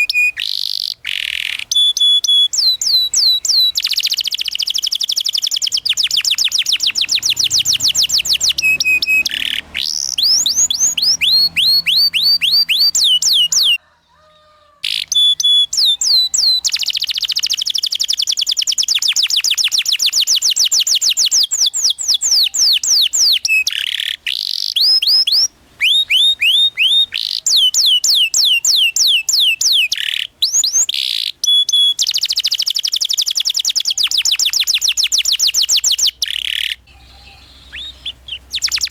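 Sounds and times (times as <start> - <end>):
canary singing trills: 0.0 - 13.8, 14.8 - 38.9.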